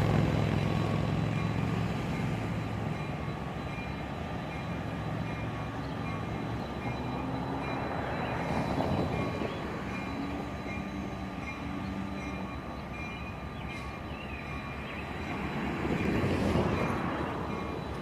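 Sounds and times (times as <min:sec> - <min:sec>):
train rumbling past on track: 0:00.0 - 0:18.0.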